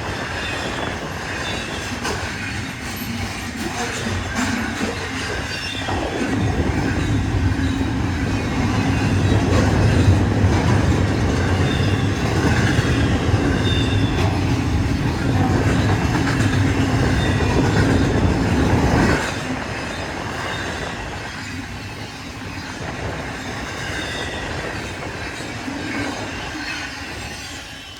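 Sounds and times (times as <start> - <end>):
freight train rumbling: 0.0 - 27.9.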